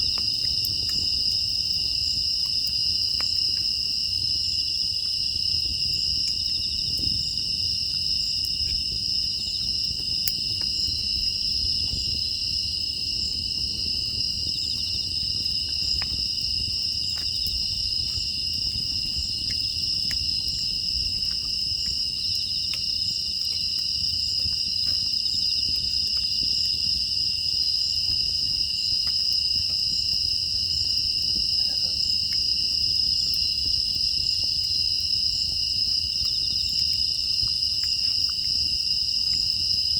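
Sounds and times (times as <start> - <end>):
crickets and insects singing: 0.0 - 39.9
wood fire crackling: 0.0 - 39.9.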